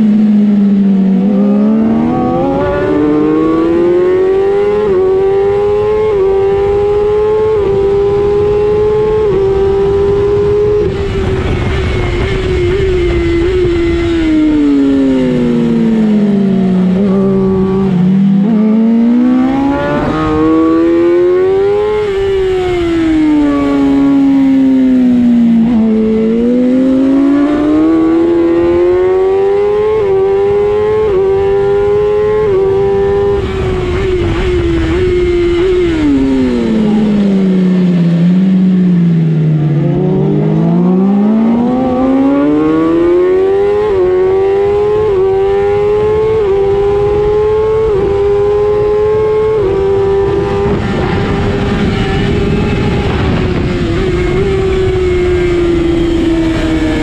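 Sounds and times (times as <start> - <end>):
motorcycle engine revving: 0.0 - 57.0
wind noise rushing: 1.2 - 57.0.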